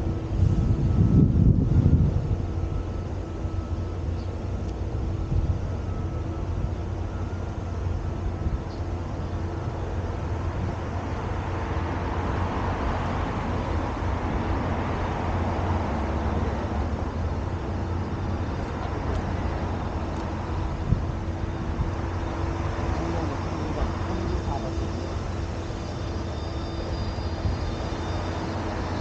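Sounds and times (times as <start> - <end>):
distant road traffic hum: 0.0 - 29.0.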